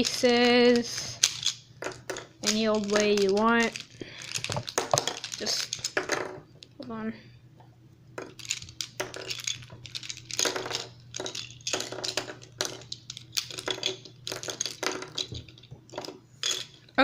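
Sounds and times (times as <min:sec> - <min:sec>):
plastic puzzle pieces clicking: 0:00.0 - 0:06.3, 0:08.2 - 0:16.7.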